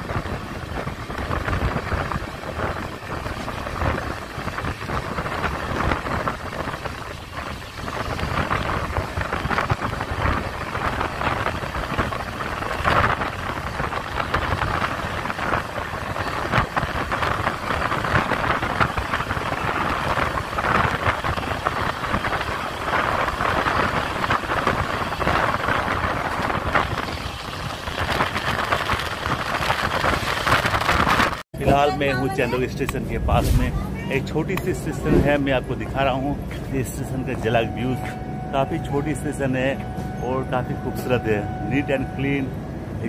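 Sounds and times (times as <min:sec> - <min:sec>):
wheel and carriage rattles: 0:00.0 - 0:41.9
train rushing and rumbling: 0:00.0 - 0:43.0.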